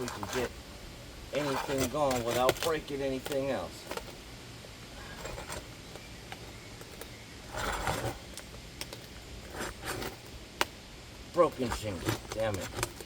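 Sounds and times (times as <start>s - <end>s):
tool scraping under shingle: 0.0s - 0.6s, 1.3s - 4.2s, 5.0s - 10.4s, 11.4s - 13.0s.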